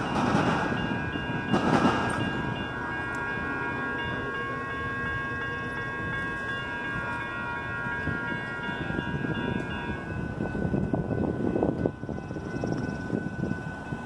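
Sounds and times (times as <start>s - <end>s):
wind buffeting microphone: 0.0s - 3.4s, 4.9s - 14.0s
crossing warning bells ringing: 0.0s - 14.0s.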